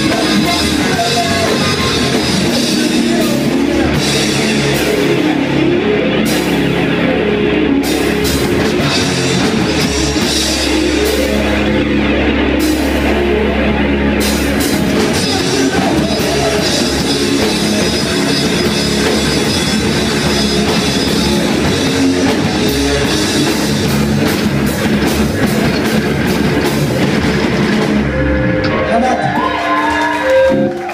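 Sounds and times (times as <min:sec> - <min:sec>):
drum kit: 0:00.0 - 0:30.9
loud rock music: 0:00.0 - 0:30.9.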